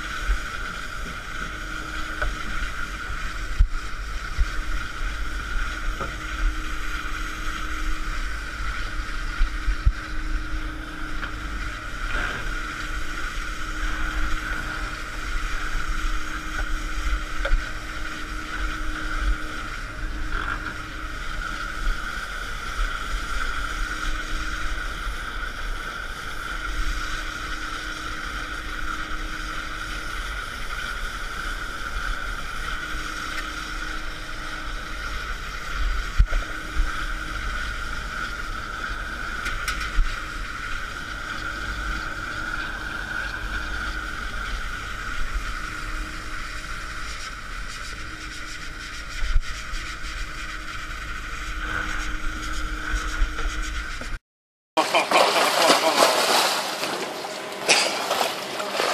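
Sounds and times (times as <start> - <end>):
boat machinery whine: 0.0 - 54.2, 54.8 - 58.9
low hum: 0.0 - 54.2.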